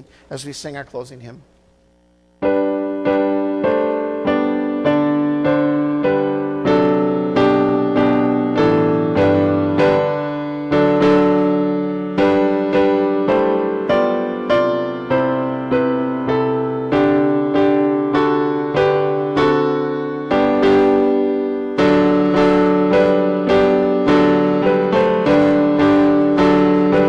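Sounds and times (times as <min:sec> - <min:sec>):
piano playing hymn chords: 0:02.4 - 0:27.0.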